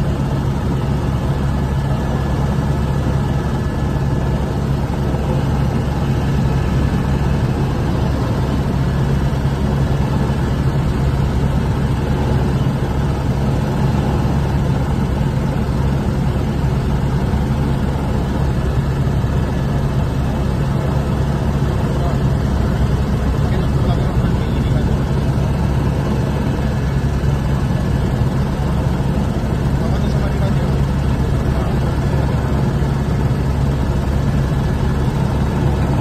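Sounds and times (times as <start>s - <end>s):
helicopter rotor and engine drone: 0.0s - 36.0s.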